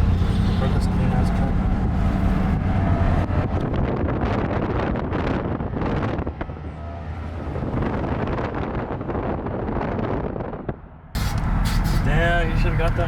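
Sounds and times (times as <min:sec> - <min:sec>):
vehicles passing: 0:00.0 - 0:13.0
wind buffeting microphone: 0:00.0 - 0:13.0.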